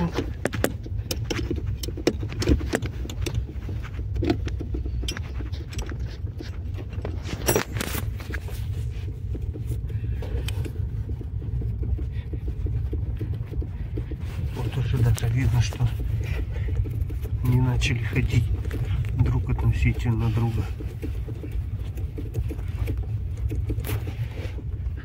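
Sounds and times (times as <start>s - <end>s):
road and tyre rumble: 0.0s - 25.0s.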